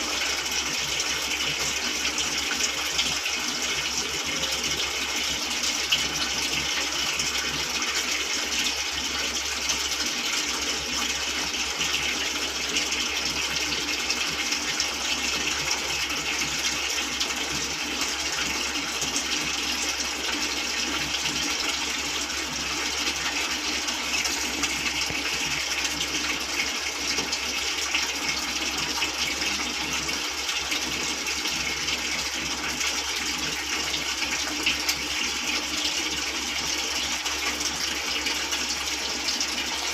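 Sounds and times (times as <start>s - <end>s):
water running into washing machine: 0.0s - 39.9s.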